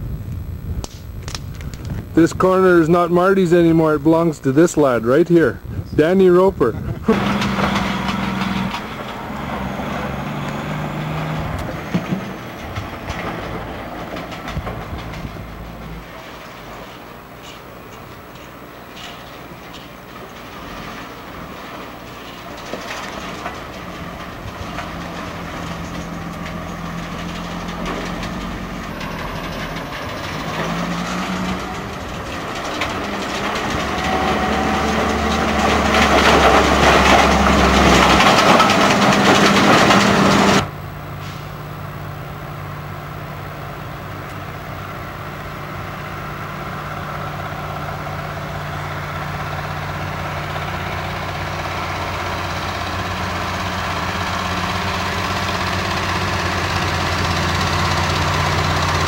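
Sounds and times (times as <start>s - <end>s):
diesel engine running: 0.0s - 59.0s
diesel truck on gravel road: 0.0s - 59.0s.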